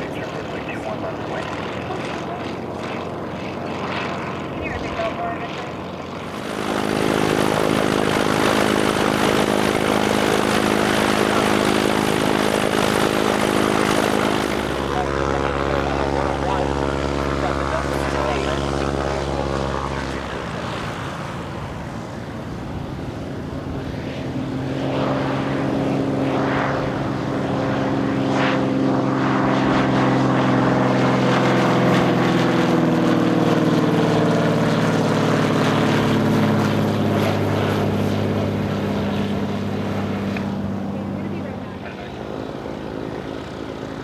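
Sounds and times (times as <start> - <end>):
propeller plane engine drone: 0.0 - 44.0.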